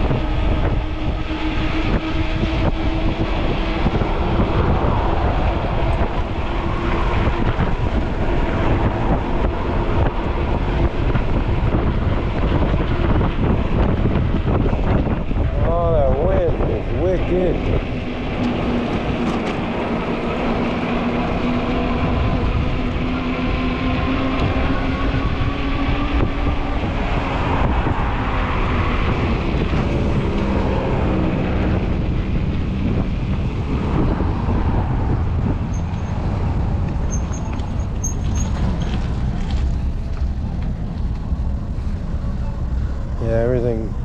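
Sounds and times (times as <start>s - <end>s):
droning hum: 0.0s - 44.0s
wind buffeting microphone: 0.0s - 44.0s.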